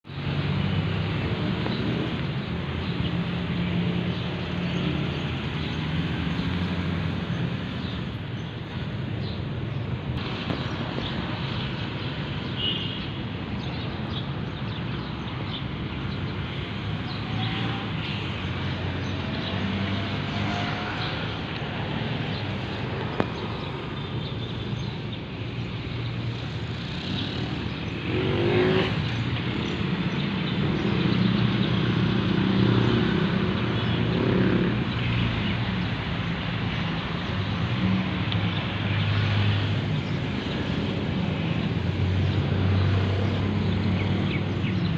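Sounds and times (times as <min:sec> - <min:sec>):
outdoor noise: 0:00.0 - 0:44.9.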